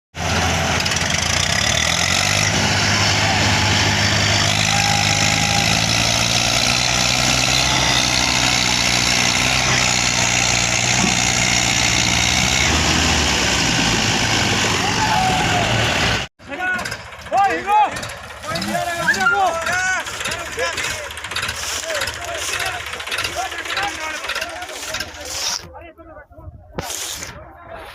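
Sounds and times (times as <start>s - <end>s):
tractor diesel engines running: 0.1s - 26.0s.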